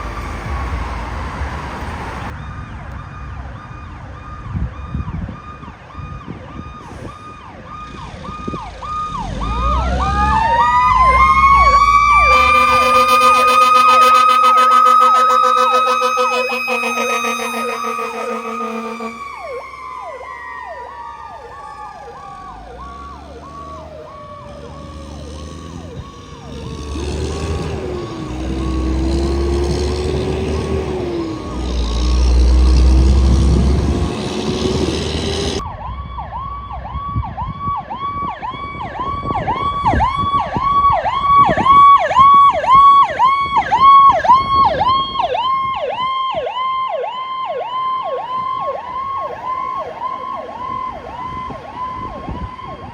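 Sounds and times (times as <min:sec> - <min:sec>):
heavy truck engine rumbling: 0:00.0 - 0:35.7, 0:41.3 - 0:52.9
electronic yelp siren: 0:00.0 - 0:52.9
wailing siren: 0:00.0 - 0:52.9.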